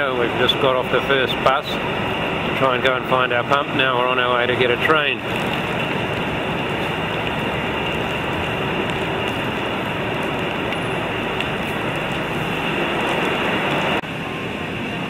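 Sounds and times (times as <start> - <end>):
rain: 0.0 - 15.0.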